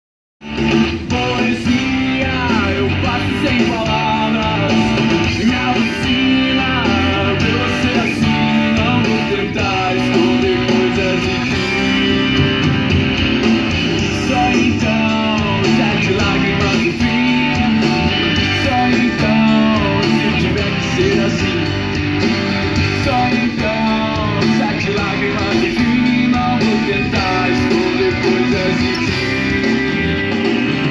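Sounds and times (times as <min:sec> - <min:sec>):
guitar music through speakers: 0:00.4 - 0:30.9.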